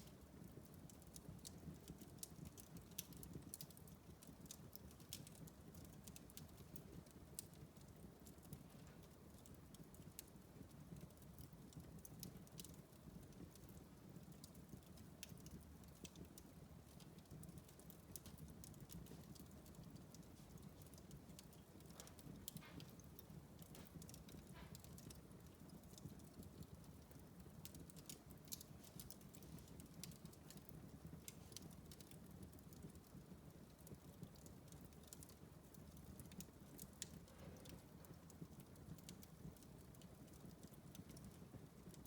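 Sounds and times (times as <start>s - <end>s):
fireplace fire crackling and popping: 0.0s - 42.0s.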